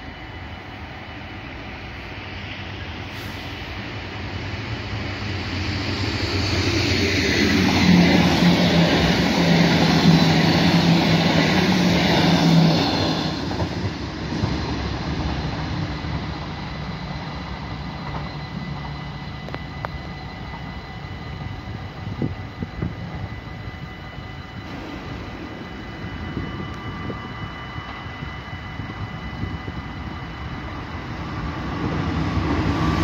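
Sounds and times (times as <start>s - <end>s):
train low hum: 0.0s - 33.0s
train wheels running on rails: 0.0s - 33.0s.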